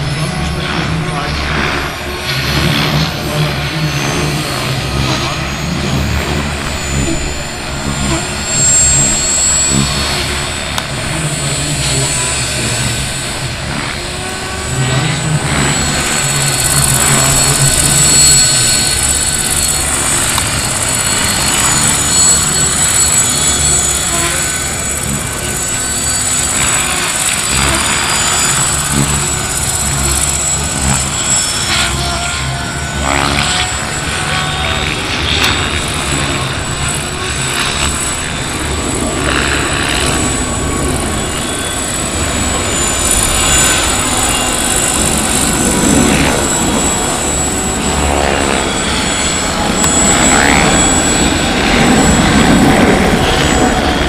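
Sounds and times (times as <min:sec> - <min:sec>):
helicopter turbine whine: 0:00.0 - 0:54.0
spinning rotor: 0:00.0 - 0:54.0.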